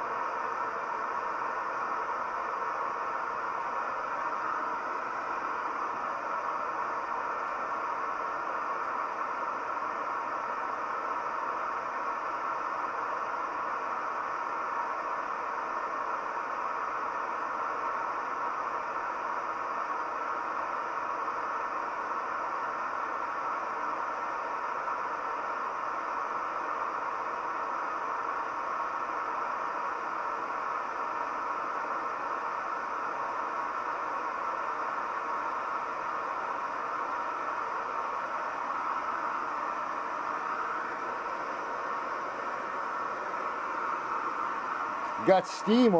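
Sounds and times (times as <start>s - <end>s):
gas burner hissing: 0.0s - 45.9s.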